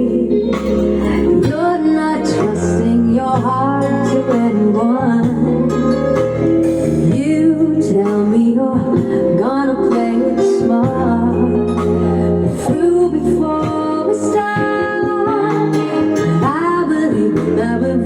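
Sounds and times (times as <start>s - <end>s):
song through loudspeaker: 0.0s - 18.0s.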